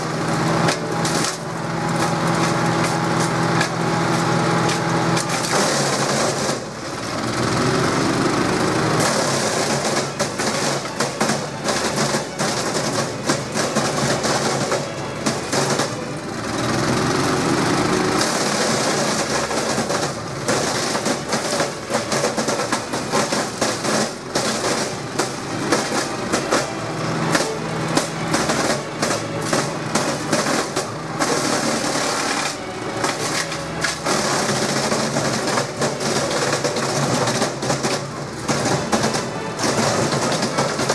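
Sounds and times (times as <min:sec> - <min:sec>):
petrol engine humming: 0:00.0 - 0:40.9.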